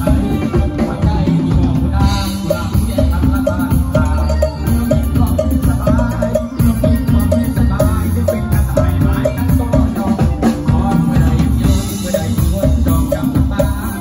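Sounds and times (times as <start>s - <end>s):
drum kit: 0.0s - 14.0s
live band playing: 0.0s - 14.0s.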